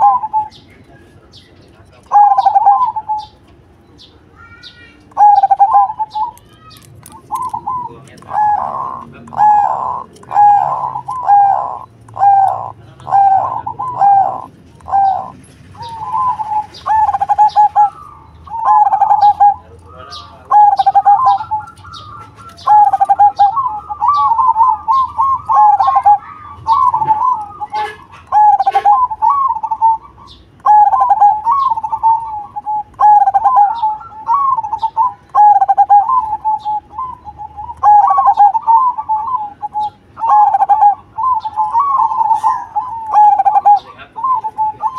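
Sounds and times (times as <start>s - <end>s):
dove cooing: 0.0s - 3.5s, 5.1s - 44.9s.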